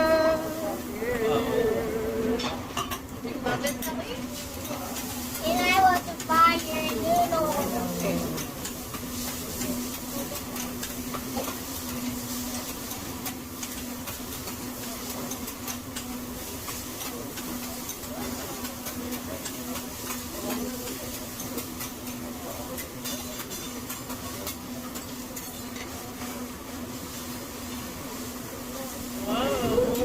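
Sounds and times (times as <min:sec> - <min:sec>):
food sizzling on a griddle: 0:00.0 - 0:30.0.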